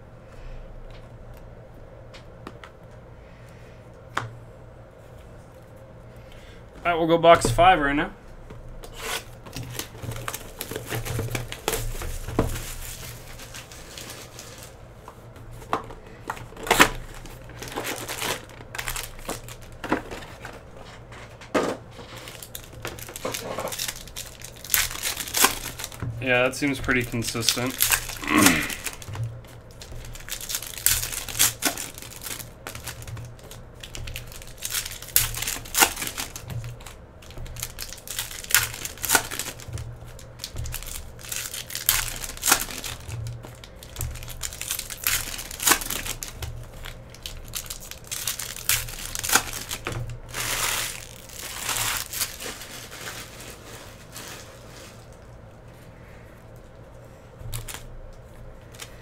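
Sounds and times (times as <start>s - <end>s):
foil wrappers crinkling and tearing: 8.8s - 55.5s, 56.7s - 59.0s.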